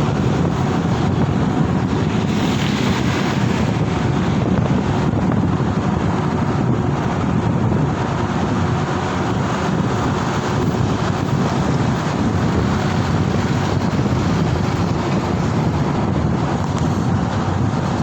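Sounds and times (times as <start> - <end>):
road and traffic noise: 0.0 - 18.0
wind rushing over microphone: 0.0 - 18.0.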